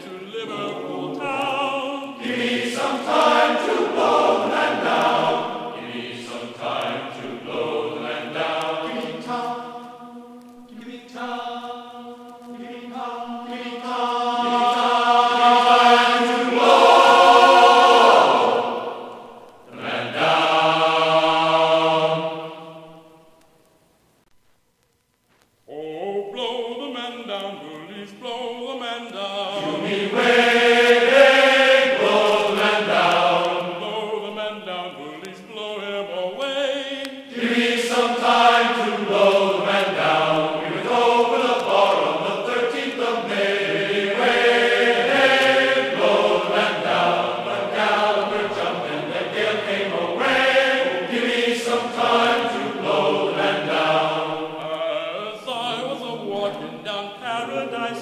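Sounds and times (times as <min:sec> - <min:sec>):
singing in held notes: 0:00.0 - 0:23.4, 0:25.7 - 0:58.0.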